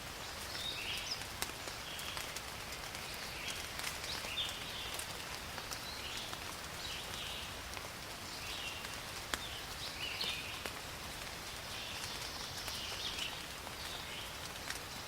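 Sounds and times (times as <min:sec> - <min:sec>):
rain falling in a forest: 0:00.0 - 0:15.0
raindrops ticking: 0:00.0 - 0:15.0.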